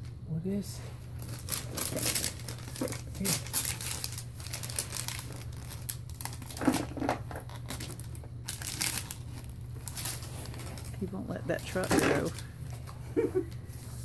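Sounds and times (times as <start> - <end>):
tissue paper crinkling: 1.0 - 13.1.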